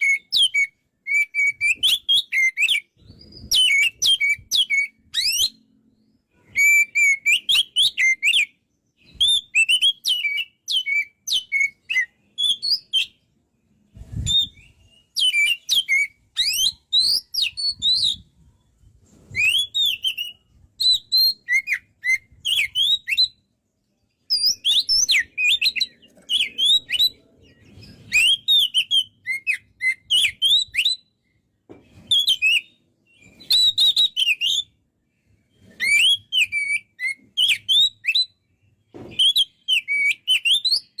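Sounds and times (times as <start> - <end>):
bird singing whistles and chirps: 0.0 - 23.5, 24.1 - 41.0.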